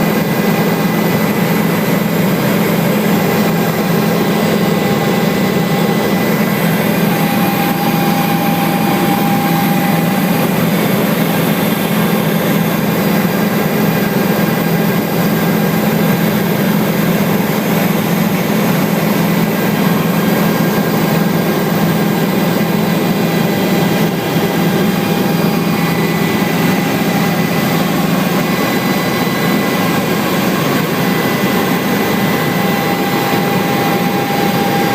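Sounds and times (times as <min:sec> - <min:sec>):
helicopter engine and rotor: 0:00.0 - 0:34.9.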